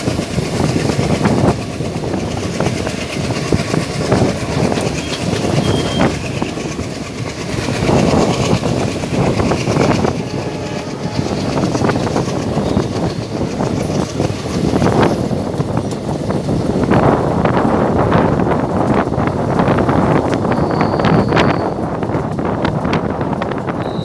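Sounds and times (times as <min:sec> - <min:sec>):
train wheels clattering: 0:00.0 - 0:24.0.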